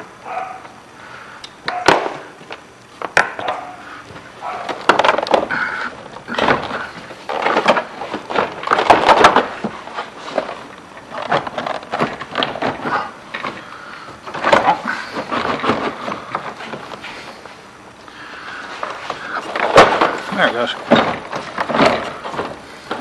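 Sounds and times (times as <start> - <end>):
plastic panel creaking and scraping: 2.5 - 17.2, 18.7 - 23.0.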